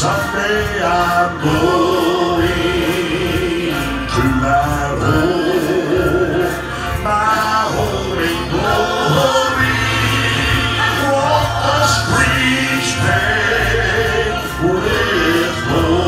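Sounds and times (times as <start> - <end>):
instrumental accompaniment with beat: 0.0 - 16.0
vocal group singing in harmony: 0.0 - 16.0.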